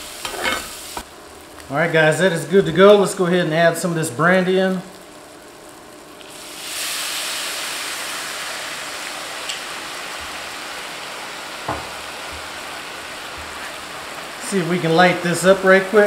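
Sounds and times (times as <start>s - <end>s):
liquid sizzling in a skillet: 0.0s - 16.0s.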